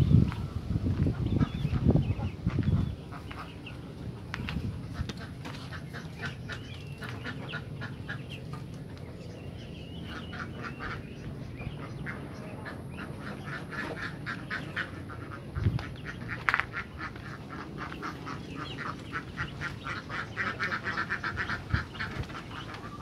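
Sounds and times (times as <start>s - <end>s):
ducklings peeping: 0.0s - 23.0s.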